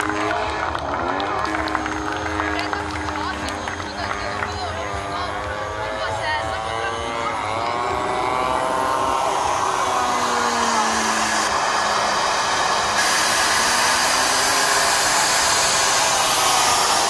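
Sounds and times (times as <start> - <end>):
model jet turbine whine: 0.0 - 17.0.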